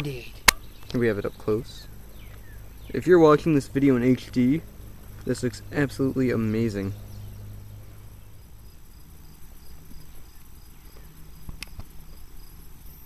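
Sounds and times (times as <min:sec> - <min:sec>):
faint high chirping: 0:00.0 - 0:13.0
low steady rumble: 0:00.0 - 0:13.0.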